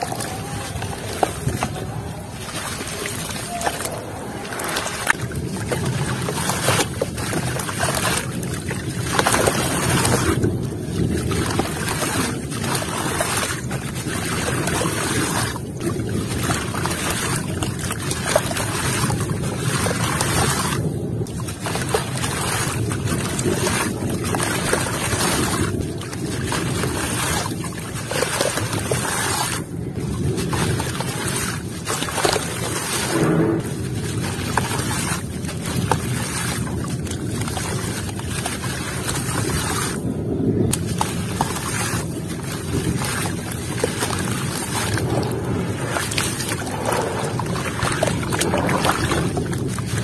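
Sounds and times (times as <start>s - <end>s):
mud splashing in water: 0.0s - 50.0s.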